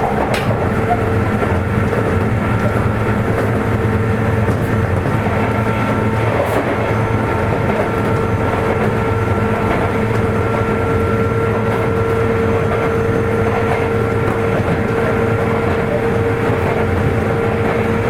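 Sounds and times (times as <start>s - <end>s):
train motor steady whine: 0.0s - 18.0s
train rail and rolling noise: 0.0s - 18.0s.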